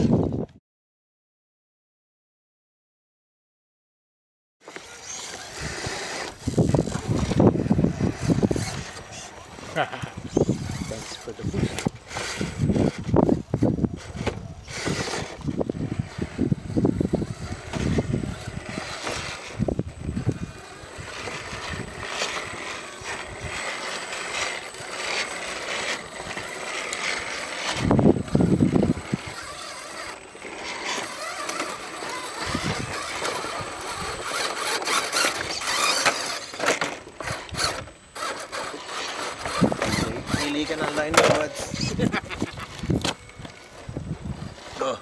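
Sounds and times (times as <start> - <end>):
electric motors whining: 4.6 - 45.0.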